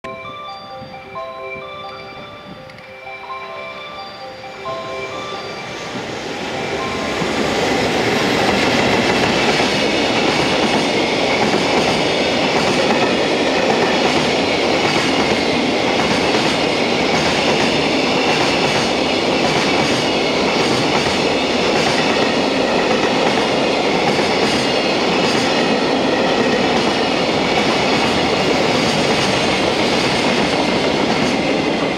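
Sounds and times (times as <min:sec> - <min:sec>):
freight train wheels on rails: 0:00.1 - 0:31.9.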